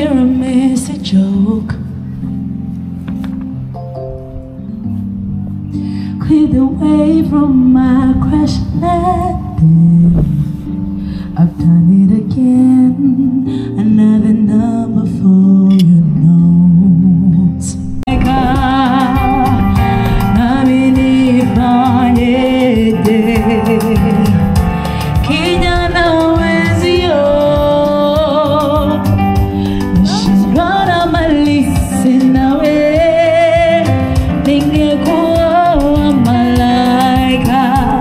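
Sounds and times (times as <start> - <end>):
person singing into a microphone: 0.0 - 2.5, 6.0 - 38.0
keyboard accompaniment: 0.0 - 38.0.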